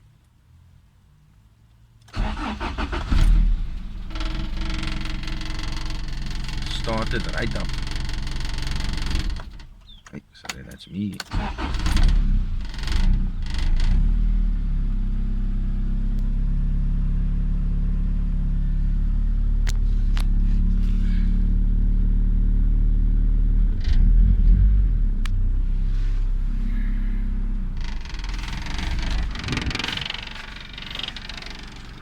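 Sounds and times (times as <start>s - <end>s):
car engine idling: 2.1s - 10.0s, 11.3s - 24.0s, 24.8s - 32.0s.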